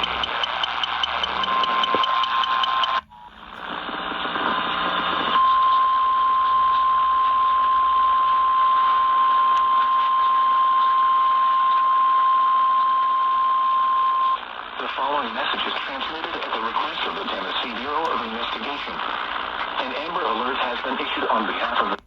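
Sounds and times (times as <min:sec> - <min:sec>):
radio hiss: 0:00.0 - 0:07.4, 0:08.2 - 0:22.0.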